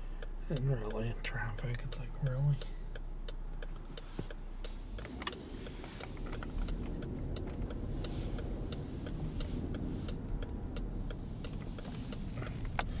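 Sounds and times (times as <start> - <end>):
engine and road rumble: 0.0 - 13.0
turn signal clicking: 0.0 - 13.0.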